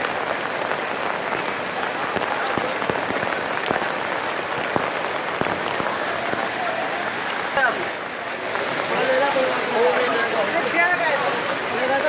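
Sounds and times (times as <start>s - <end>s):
heavy rain falling: 0.0s - 12.0s
raindrops ticking on surfaces: 0.0s - 12.0s.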